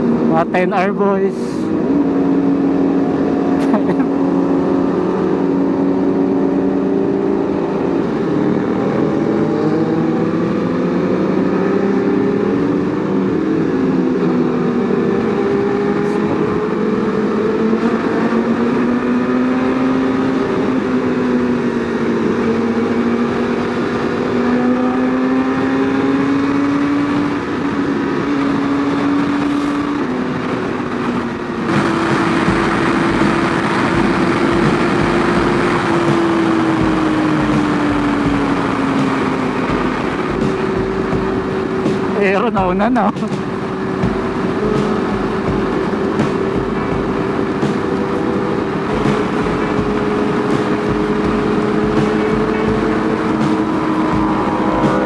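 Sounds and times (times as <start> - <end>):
motorcycle engines running: 0.0 - 55.0
wind and road noise: 0.0 - 55.0.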